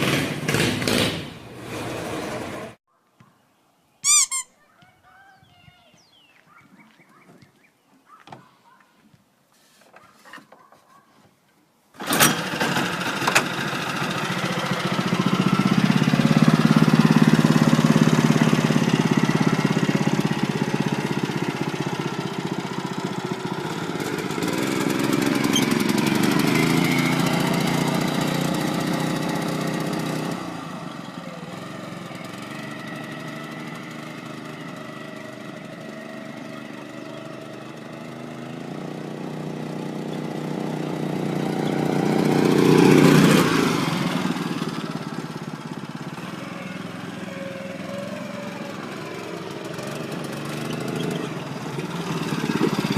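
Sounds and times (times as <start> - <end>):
small gasoline engine running: 0.0 - 2.8, 12.0 - 52.9.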